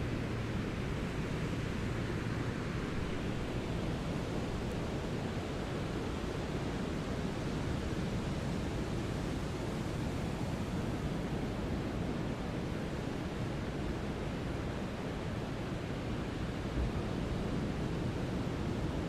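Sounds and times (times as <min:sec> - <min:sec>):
brown noise hiss: 0:00.0 - 0:19.0.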